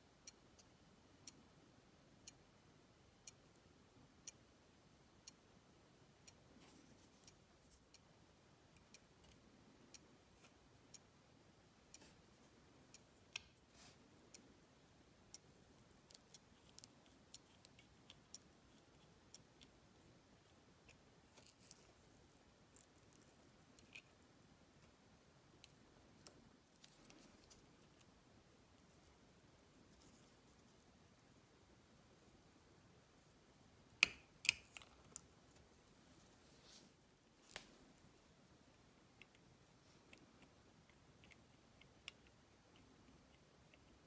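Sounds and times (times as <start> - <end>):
faint steady ticking: 0.0 - 44.0.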